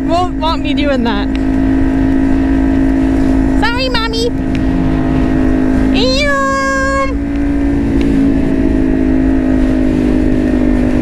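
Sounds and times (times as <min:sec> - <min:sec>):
motorcycle engine cruising: 0:00.0 - 0:11.0
wind rumbling on microphone: 0:00.0 - 0:11.0.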